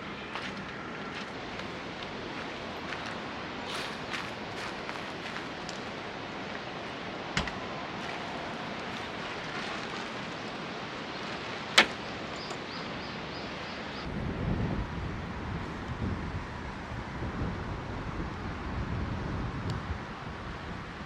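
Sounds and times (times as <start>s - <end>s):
rushing outdoor noise: 0.0s - 21.0s.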